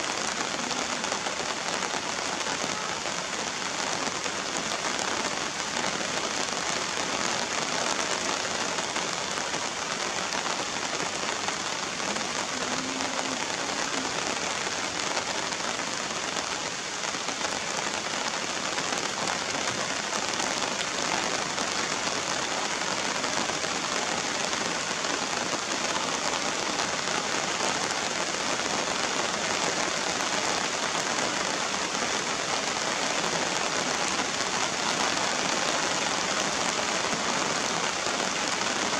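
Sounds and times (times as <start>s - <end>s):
rain splashing on wet ground: 0.0s - 38.9s.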